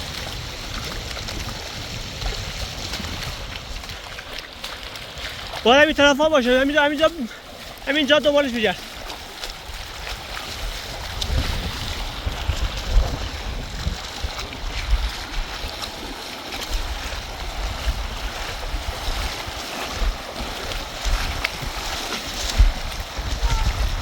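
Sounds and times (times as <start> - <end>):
rushing water: 0.0 - 24.0
wind buffeting microphone: 0.0 - 24.0.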